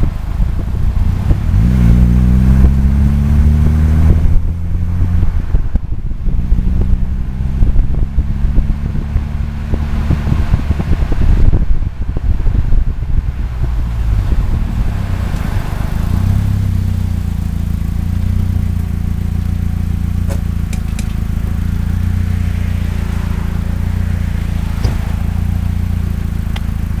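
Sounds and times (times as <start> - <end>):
car engine idling: 0.0 - 1.6, 4.2 - 27.0
road and wind hiss: 0.0 - 27.0.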